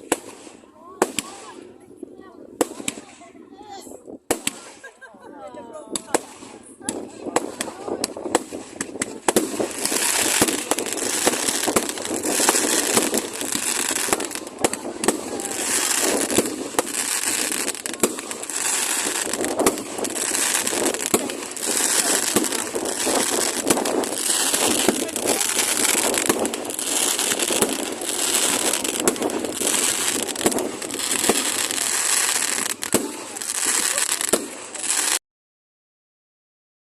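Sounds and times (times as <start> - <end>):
fireworks crackling and popping: 0.0 - 5.0, 5.9 - 35.2.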